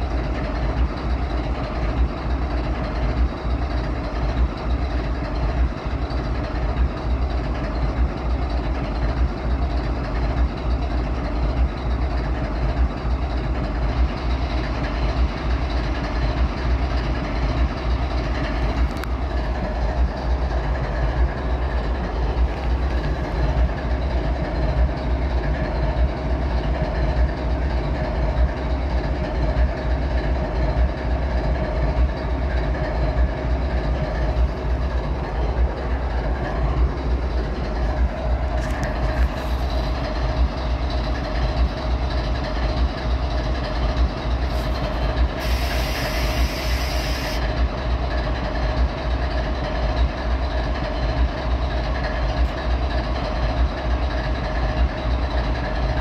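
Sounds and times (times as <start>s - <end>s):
locomotive diesel engine idling: 0.0s - 56.0s.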